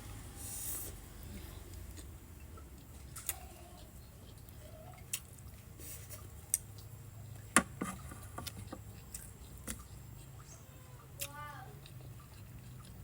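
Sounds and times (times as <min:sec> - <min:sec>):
wet squishing of food: 0:00.0 - 0:13.0.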